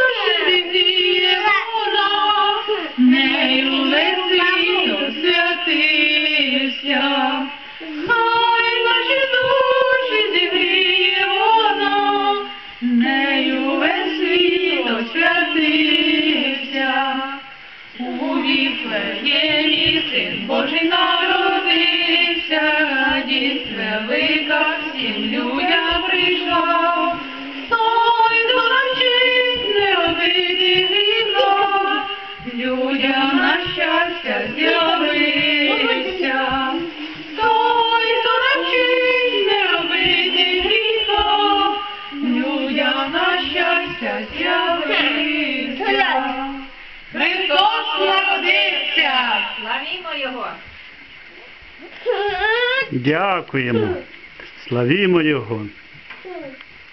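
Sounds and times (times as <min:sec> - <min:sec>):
woman and boys singing carol: 0:00.0 - 0:50.7, 0:53.6 - 0:54.2.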